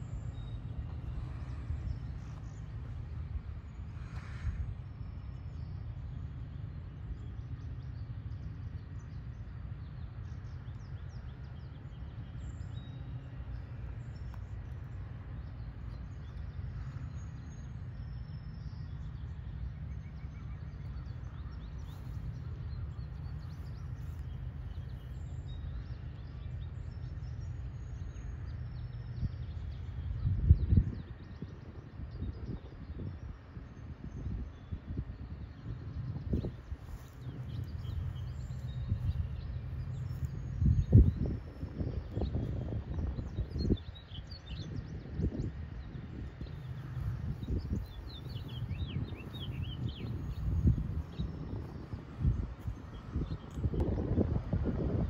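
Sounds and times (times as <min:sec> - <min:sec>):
birds chirping: 0:00.0 - 0:31.7, 0:34.2 - 0:54.3
steady low rumble: 0:00.0 - 0:55.0.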